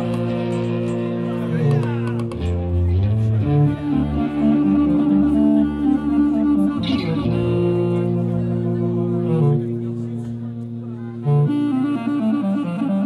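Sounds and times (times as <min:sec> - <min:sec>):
clarinet: 0:00.0 - 0:13.0
electric guitar: 0:00.0 - 0:13.0
electronic backing music: 0:00.0 - 0:13.0.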